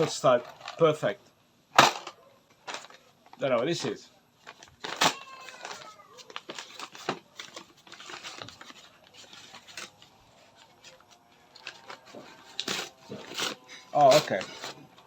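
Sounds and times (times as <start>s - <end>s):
plastic bags crinkling: 1.8s - 15.0s.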